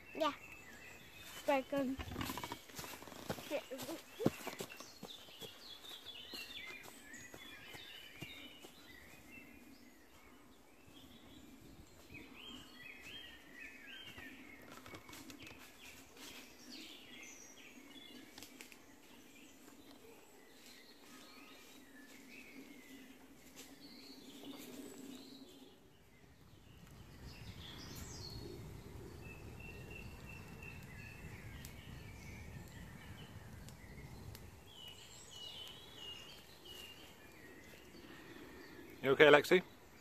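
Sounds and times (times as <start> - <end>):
faint birds chirping: 0.0 - 40.0.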